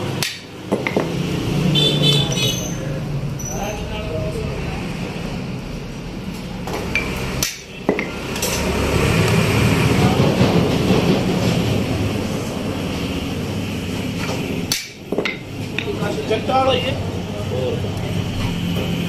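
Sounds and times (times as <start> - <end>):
dense background noise: 0.0 - 19.0.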